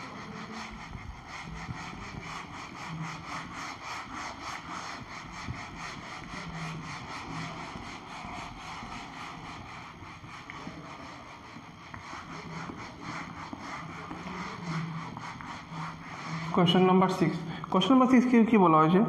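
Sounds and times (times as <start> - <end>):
duster scrubbing whiteboard: 0.0 - 18.6.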